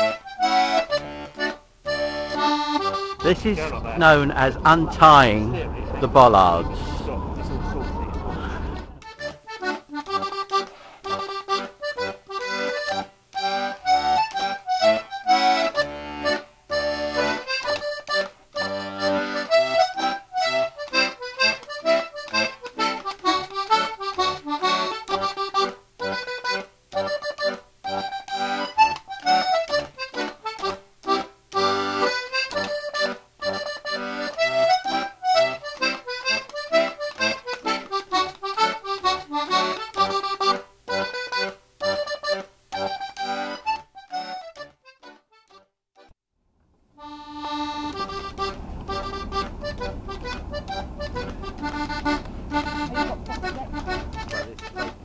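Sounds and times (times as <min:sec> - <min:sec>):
accordion music: 0:00.0 - 0:46.2, 0:47.0 - 0:55.0.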